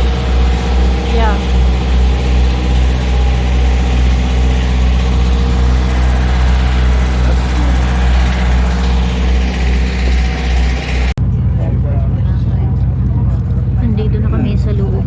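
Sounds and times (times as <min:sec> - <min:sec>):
large engine idling: 0:00.0 - 0:15.0.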